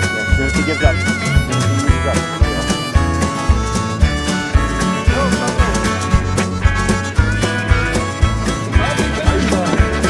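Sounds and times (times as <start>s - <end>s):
country music with quick beat: 0.0s - 10.0s.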